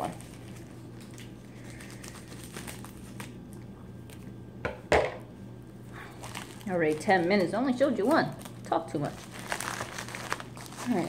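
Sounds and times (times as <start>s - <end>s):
plastic packaging crinkling: 0.0s - 4.3s, 5.9s - 11.0s
low steady hum: 0.0s - 11.0s.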